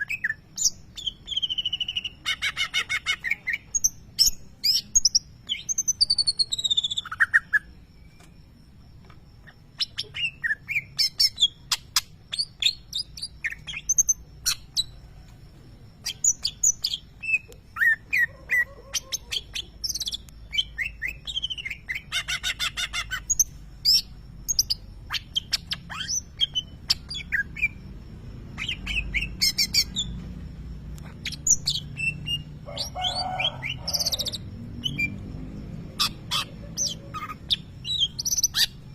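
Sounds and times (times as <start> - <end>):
songbird singing chirps and trills: 0.0 - 38.9.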